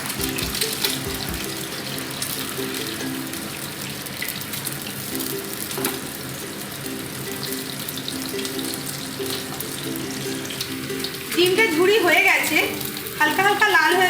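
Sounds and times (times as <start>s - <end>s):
eggs sizzling in oil: 0.0s - 14.0s
soft background music: 0.0s - 14.0s.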